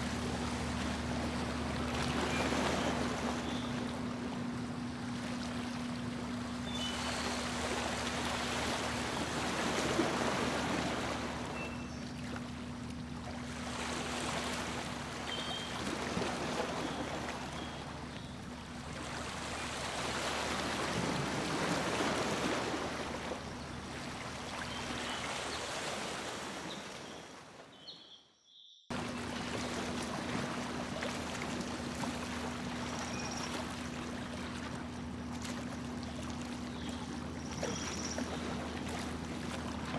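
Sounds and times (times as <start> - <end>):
boat motor hum: 0.0 - 27.0, 28.9 - 39.9
water rushing along hull: 0.0 - 27.8, 28.9 - 39.9.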